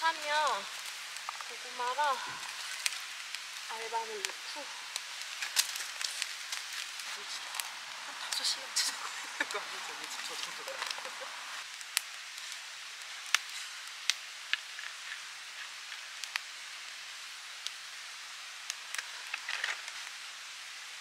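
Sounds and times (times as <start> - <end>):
fire crackling and popping: 0.0 - 21.0
fire hissing: 0.0 - 21.0.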